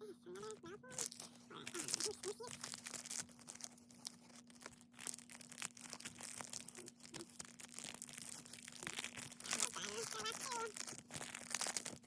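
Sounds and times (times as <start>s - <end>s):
faint steady hum: 0.0s - 12.0s
plastic wrappers crinkling and tearing: 0.2s - 12.0s.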